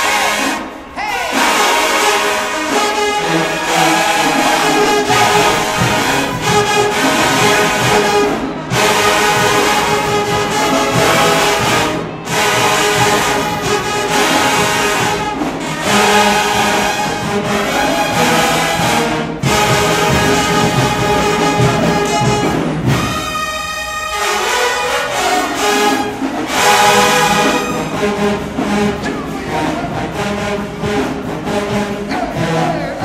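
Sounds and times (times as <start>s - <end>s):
marching band brass playing: 0.0s - 33.0s.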